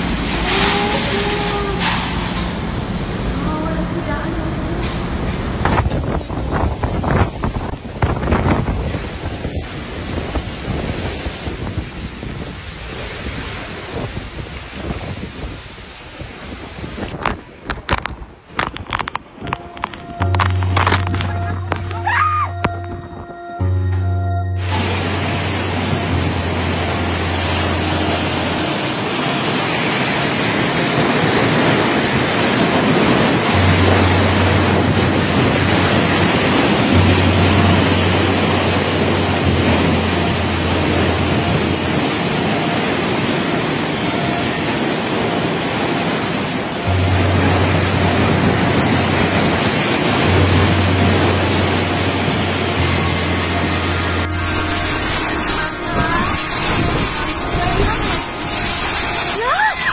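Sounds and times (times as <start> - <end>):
wind buffeting microphone: 0.0 - 23.5, 24.6 - 59.9
rush of wind and water: 0.0 - 23.7, 24.6 - 59.9.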